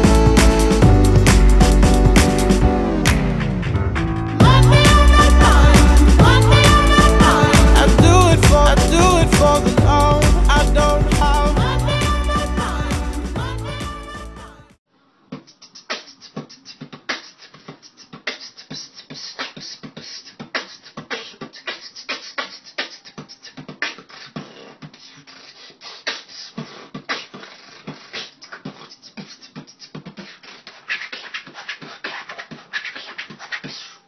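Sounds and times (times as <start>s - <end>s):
person beatboxing: 4.4s - 14.2s, 15.3s - 34.0s.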